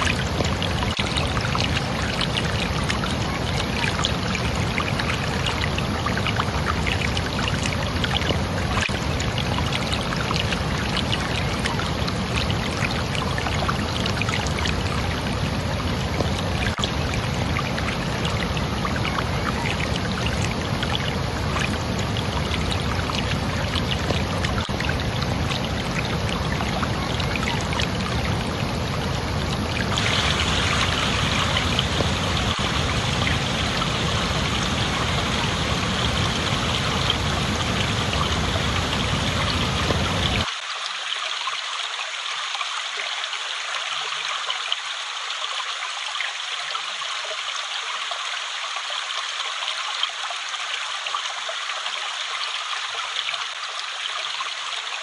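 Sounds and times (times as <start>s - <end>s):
water flowing: 0.0s - 55.0s.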